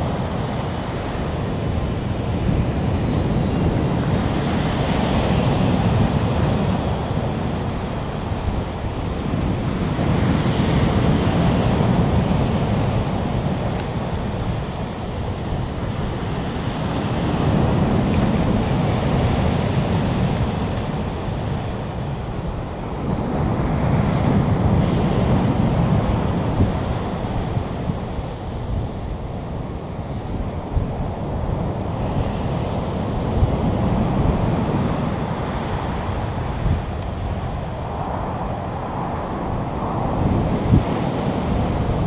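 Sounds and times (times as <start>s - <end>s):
faint jet engine whine: 0.0s - 42.0s
wind buffeting microphone: 0.0s - 42.0s.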